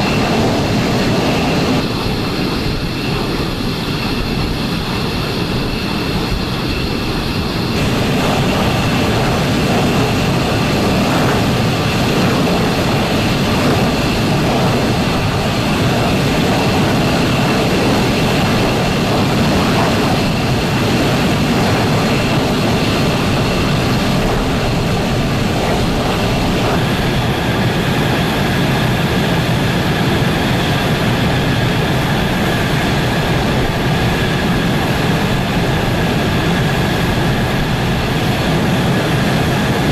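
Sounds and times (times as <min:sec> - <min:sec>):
high engine whine: 0:00.0 - 0:39.9
jet engine running loudly: 0:00.0 - 0:39.9.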